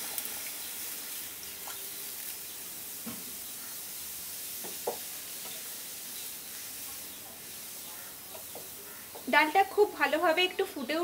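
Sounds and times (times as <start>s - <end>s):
water sizzling in hot wok: 0.0s - 11.0s.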